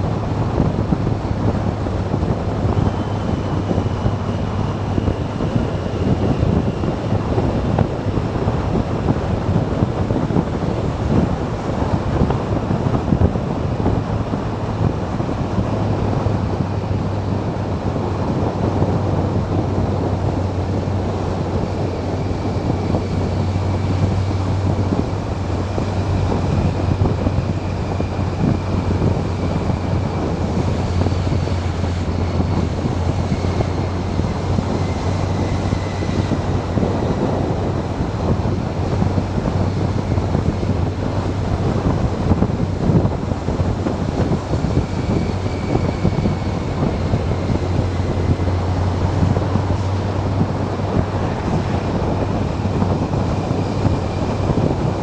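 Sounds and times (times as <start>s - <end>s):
motorcycle engine drone: 0.0s - 55.0s
wind buffeting microphone: 0.0s - 55.0s.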